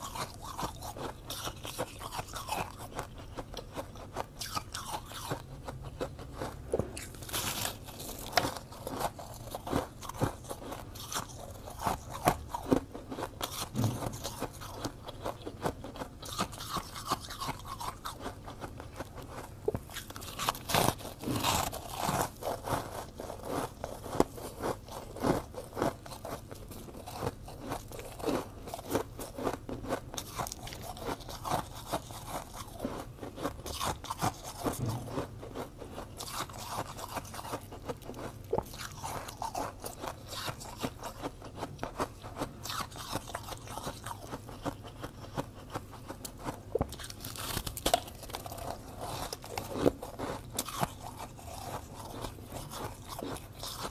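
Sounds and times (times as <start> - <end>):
crisp crunching of ice being chewed: 0.0 - 53.9.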